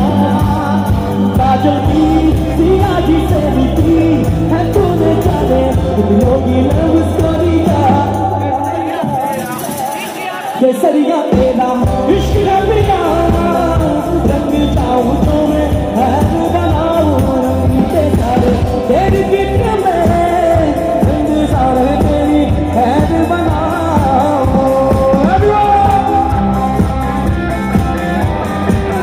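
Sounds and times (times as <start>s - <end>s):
live band with bass-heavy beat: 0.0s - 29.0s
man singing: 0.0s - 29.0s.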